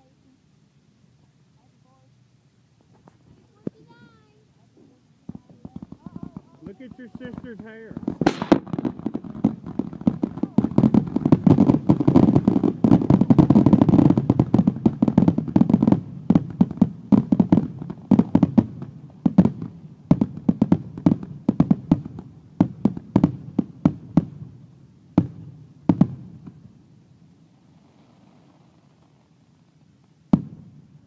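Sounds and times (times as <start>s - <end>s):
fireworks bursting: 2.7s - 31.0s.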